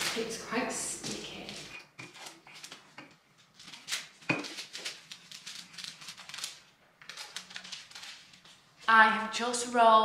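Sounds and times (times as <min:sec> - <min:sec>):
baking paper crinkling: 0:00.0 - 0:09.0.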